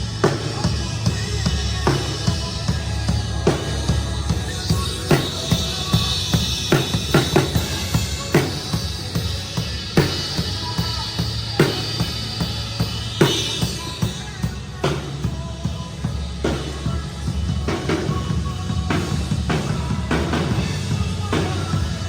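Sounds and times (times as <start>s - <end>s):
band music: 0.0s - 22.0s.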